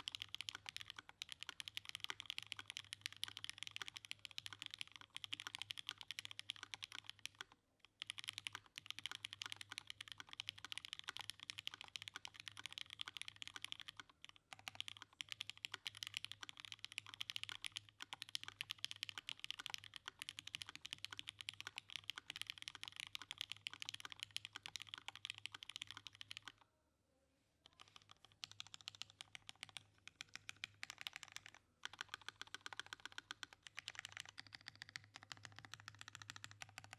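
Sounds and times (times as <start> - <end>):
fast mechanical keyboard typing: 0.0 - 26.6, 27.7 - 36.9.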